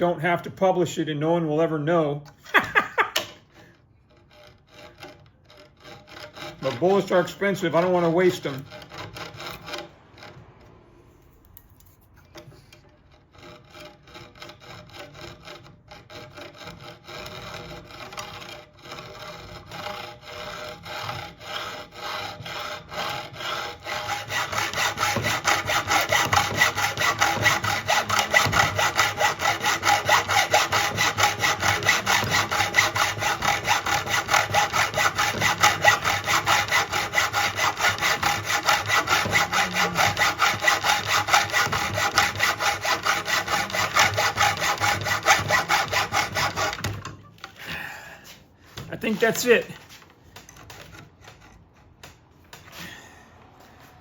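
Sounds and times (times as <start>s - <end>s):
hand saw cutting metal: 2.6s - 11.0s, 12.0s - 47.2s, 48.2s - 53.0s.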